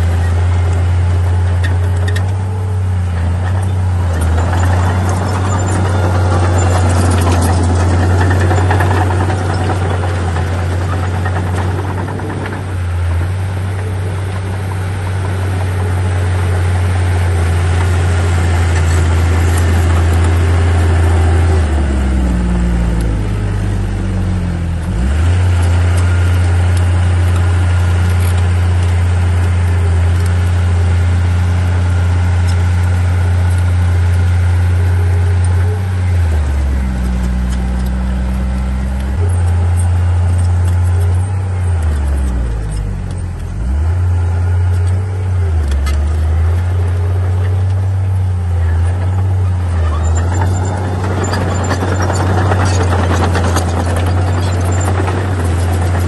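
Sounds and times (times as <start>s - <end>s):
bulldozer diesel engine running hard: 0.0s - 56.0s.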